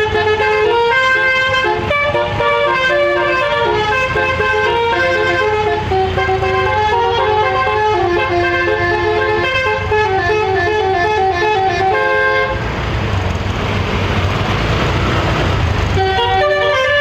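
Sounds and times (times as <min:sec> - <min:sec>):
musical air horn melody: 0:00.0 - 0:12.7, 0:16.0 - 0:17.0
bus engine rumble: 0:00.0 - 0:17.0.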